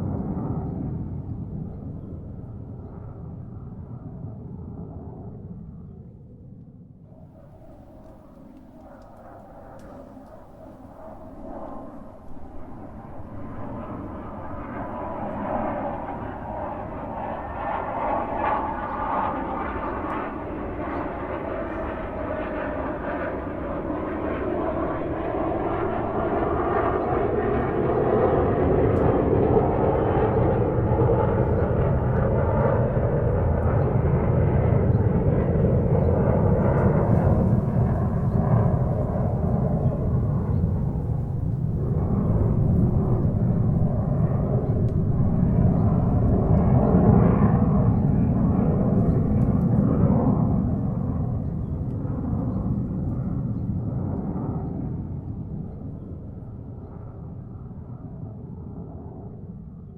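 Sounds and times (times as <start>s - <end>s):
airplane engines and rushing air: 0.0s - 59.9s.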